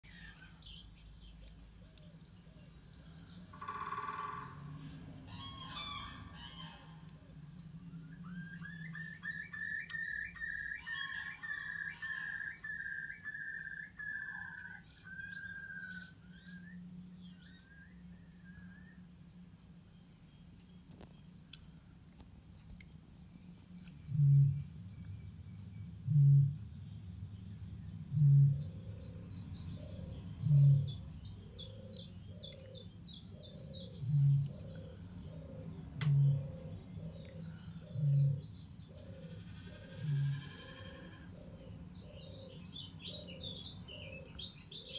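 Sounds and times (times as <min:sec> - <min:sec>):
recorded birdsong: 0:00.0 - 0:44.9.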